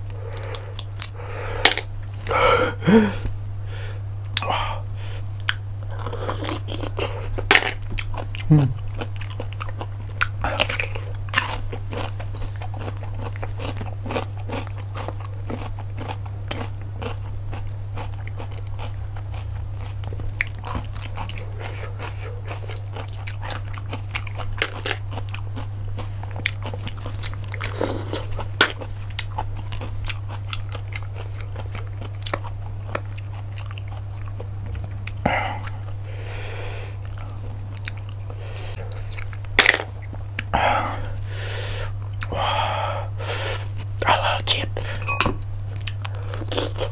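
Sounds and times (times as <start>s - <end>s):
chewing and crunching shellfish: 0.0s - 2.4s, 5.2s - 42.6s, 43.3s - 46.9s
steady low hum: 0.0s - 46.9s.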